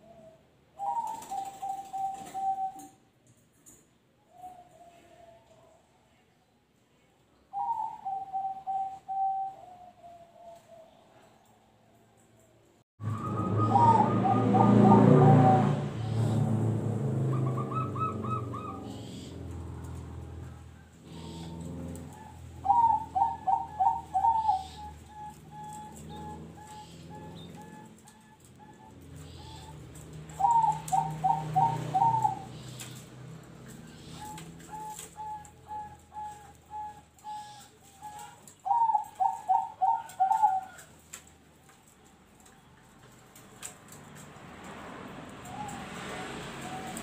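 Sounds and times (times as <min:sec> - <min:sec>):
dove cooing song: 0:00.0 - 0:03.1, 0:04.3 - 0:06.0, 0:07.5 - 0:41.2, 0:45.4 - 0:47.0.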